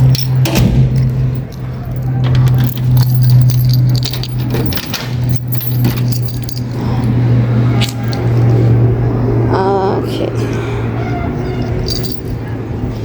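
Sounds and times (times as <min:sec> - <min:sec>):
keys jangling: 0:00.0 - 0:08.8, 0:11.4 - 0:13.0
steady low hum: 0:00.0 - 0:13.0.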